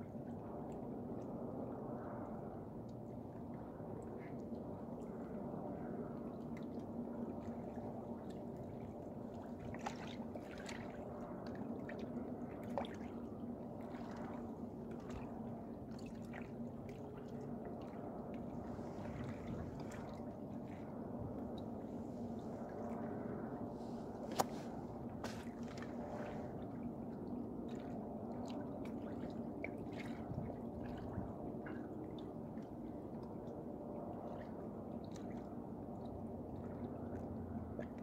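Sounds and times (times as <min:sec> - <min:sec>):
low hum: 0:00.0 - 0:38.0.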